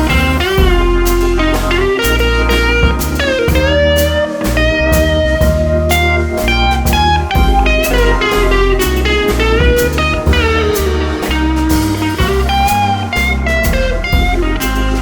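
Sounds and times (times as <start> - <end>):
bass line: 0.0 - 15.0
guitar melody with bending notes: 0.0 - 15.0
steady drum beat: 0.0 - 15.0.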